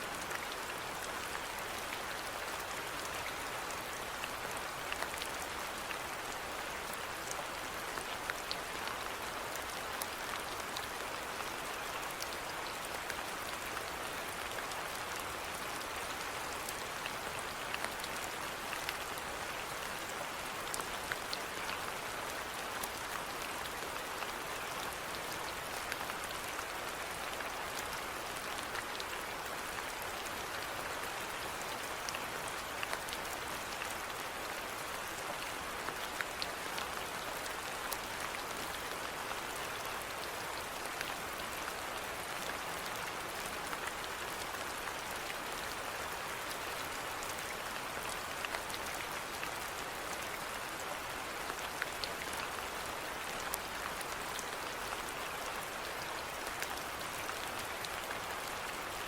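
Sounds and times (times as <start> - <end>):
steady rain pattering: 0.0 - 59.0.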